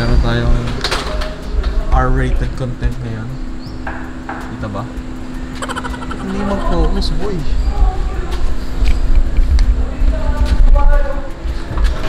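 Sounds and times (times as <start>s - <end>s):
faint voices: 0.0s - 12.0s
steady hum: 0.0s - 12.0s
vehicle engine rumbling: 0.0s - 12.0s.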